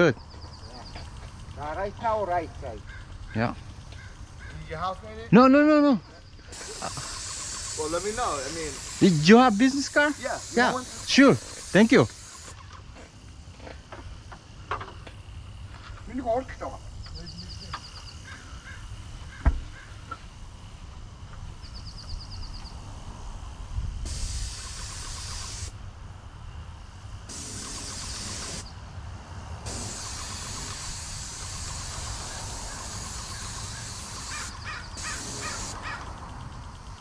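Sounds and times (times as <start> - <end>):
birds calling: 0.0 - 13.3, 14.0 - 20.7, 24.2 - 25.7, 27.4 - 28.8, 29.7 - 37.0
paint sprayer hissing: 6.2 - 37.0.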